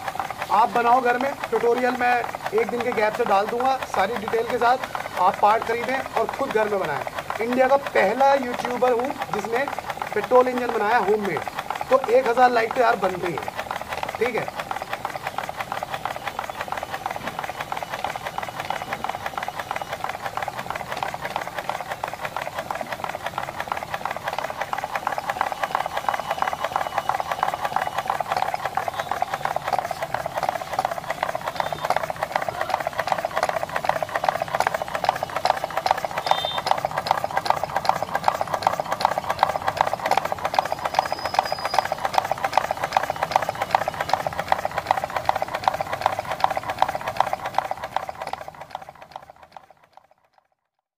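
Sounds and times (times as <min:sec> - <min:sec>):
petrol engine clattering: 0:00.0 - 0:50.4.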